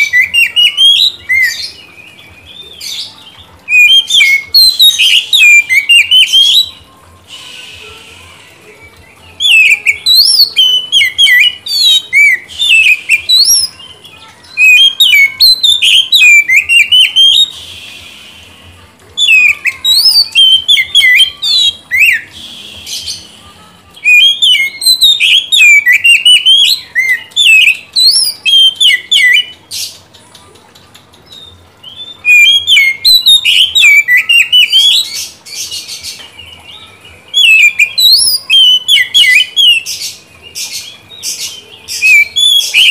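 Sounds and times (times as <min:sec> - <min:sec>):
bird singing whistled notes: 0:00.0 - 0:03.1, 0:03.7 - 0:13.8, 0:14.5 - 0:18.6, 0:19.2 - 0:23.4, 0:24.0 - 0:29.6, 0:31.3 - 0:42.9.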